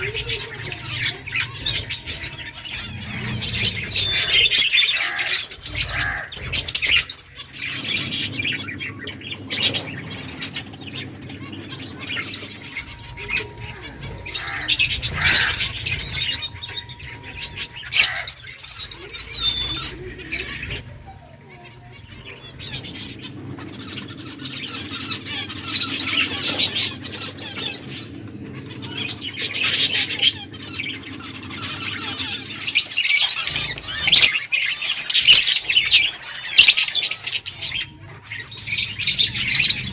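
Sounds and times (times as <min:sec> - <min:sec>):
finches chirping: 0:00.0 - 0:39.9
steady low hum: 0:00.0 - 0:39.9.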